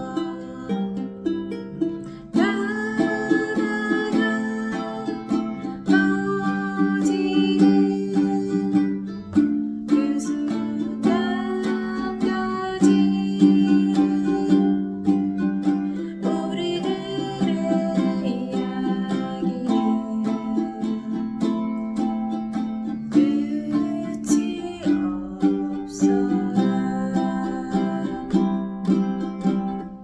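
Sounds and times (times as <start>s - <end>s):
ukulele fingerpicked arpeggio: 0.0s - 30.0s.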